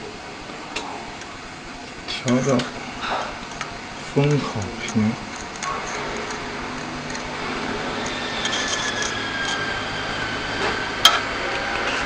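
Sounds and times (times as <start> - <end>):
faint falling whine: 0.0 - 12.0
machine hum and hiss: 0.0 - 12.0.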